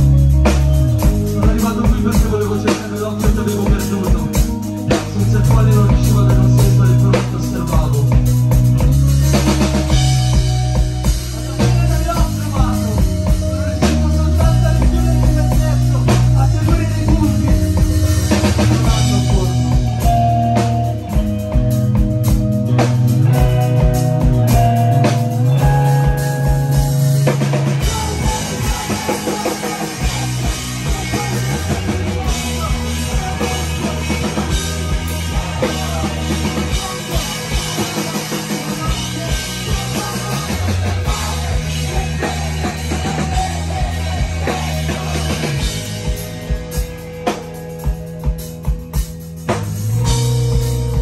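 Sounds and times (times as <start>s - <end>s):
drum kit: 0.0s - 51.0s
electric guitars: 0.0s - 51.0s.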